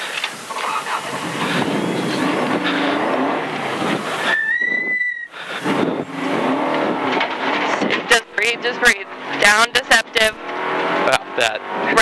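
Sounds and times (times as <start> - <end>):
tyres on gravel: 0.0 - 9.6
rally car engine accelerating: 0.4 - 12.0.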